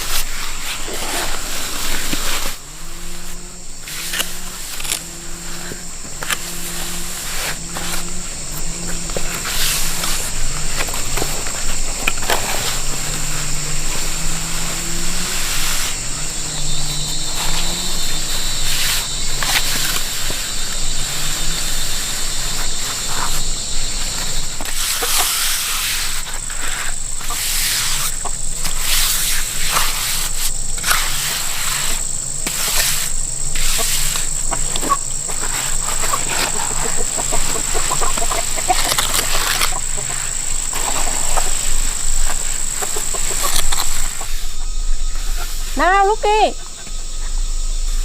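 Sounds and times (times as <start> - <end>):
high-pitched insect drone: 0.0 - 48.0.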